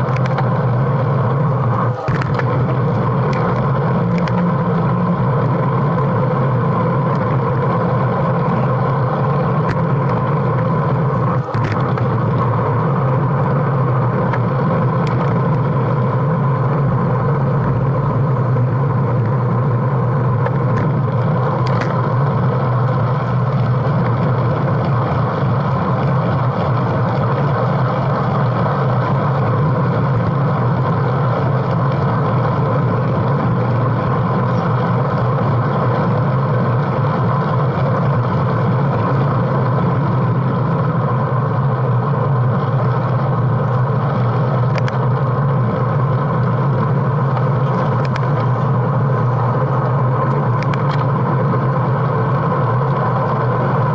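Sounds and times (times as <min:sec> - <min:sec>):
bicycle tyre hum on asphalt: 0:00.0 - 0:53.9.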